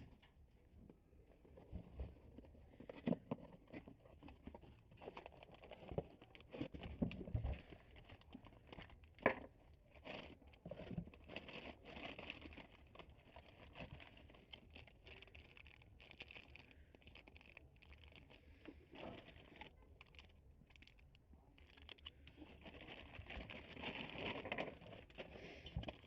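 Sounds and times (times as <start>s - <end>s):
packaging rustling and crinkling: 1.4s - 26.0s.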